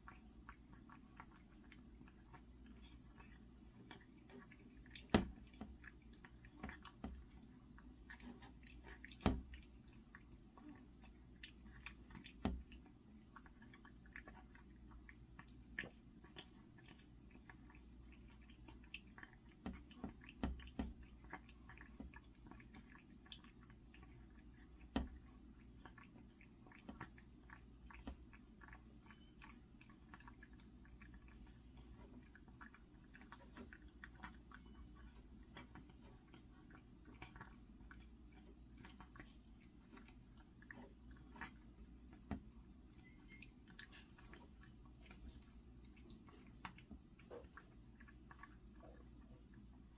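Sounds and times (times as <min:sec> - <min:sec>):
cat chewing: 0:00.0 - 0:49.9.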